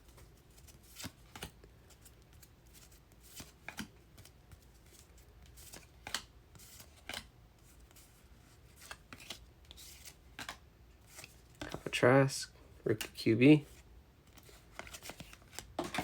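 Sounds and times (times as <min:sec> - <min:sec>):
trading cards being flipped: 0:00.1 - 0:08.1, 0:08.7 - 0:11.9, 0:14.3 - 0:16.0.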